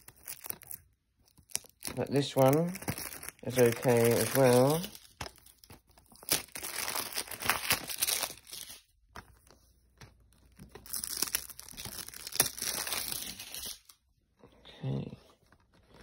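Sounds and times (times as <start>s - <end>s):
plastic case crinkling: 0.0s - 13.7s.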